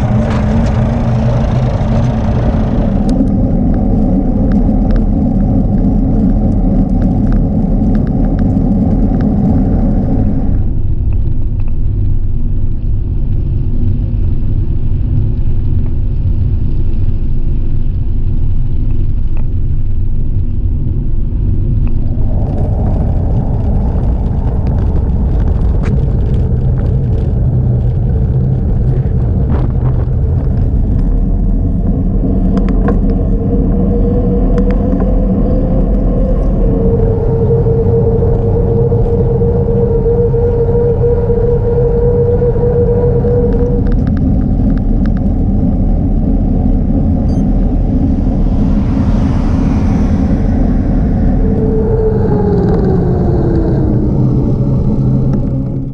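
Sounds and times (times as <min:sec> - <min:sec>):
bicycle road rumble: 0:00.0 - 0:55.9
wind buffeting microphone: 0:00.0 - 0:55.9.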